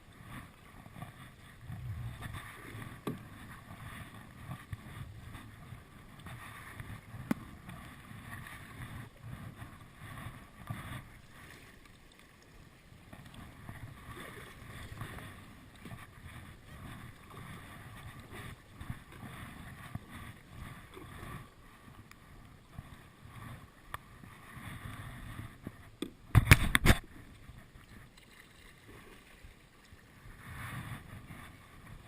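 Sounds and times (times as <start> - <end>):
kayak paddle strokes splashing: 0.0 - 32.0
water sloshing around kayak: 0.0 - 32.0.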